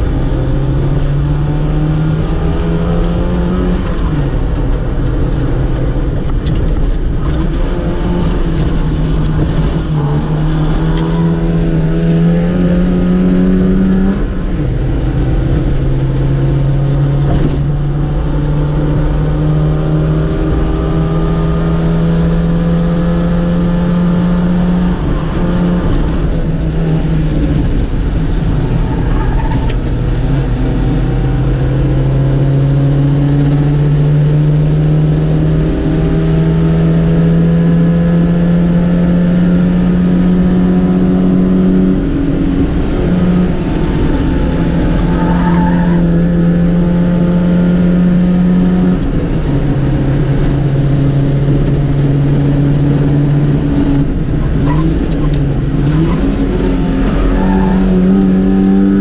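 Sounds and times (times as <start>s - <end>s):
race car engine under full load: 0.0s - 59.0s.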